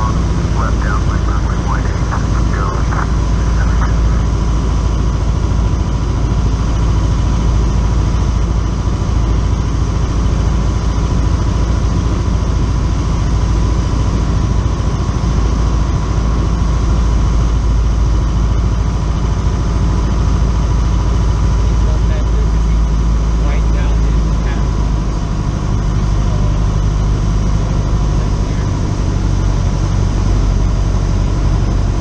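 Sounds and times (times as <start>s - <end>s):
airplane engine and propeller drone: 0.0s - 32.0s.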